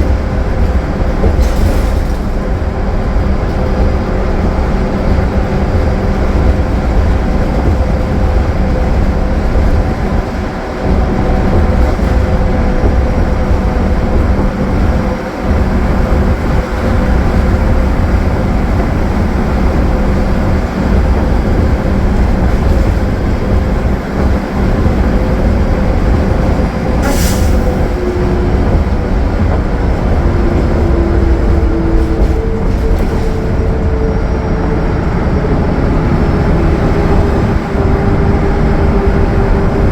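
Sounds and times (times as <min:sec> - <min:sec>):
bus diesel engine running: 0:00.0 - 0:39.9
road rumble: 0:00.0 - 0:39.9.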